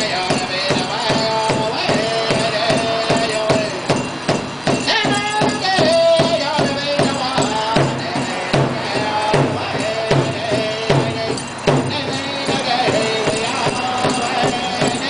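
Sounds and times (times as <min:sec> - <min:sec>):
steady drumbeat: 0:00.0 - 0:15.0
voices singing chanted melody: 0:00.0 - 0:15.0.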